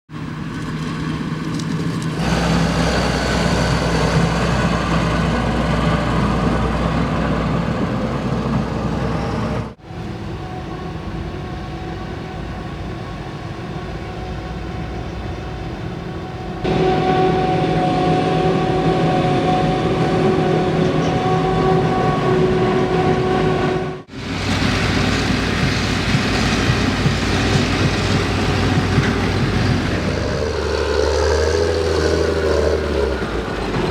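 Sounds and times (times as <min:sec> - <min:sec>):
diesel engines running: 0:00.1 - 0:33.9
steady whine: 0:02.1 - 0:30.7.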